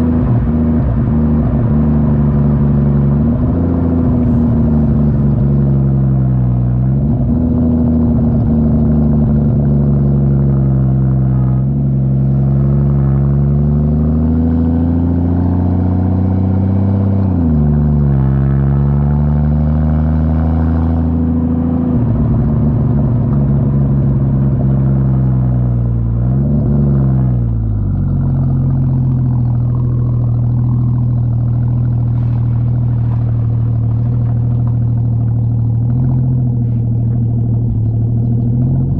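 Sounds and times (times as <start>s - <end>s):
car engine droning through gear changes: 0.0s - 38.9s.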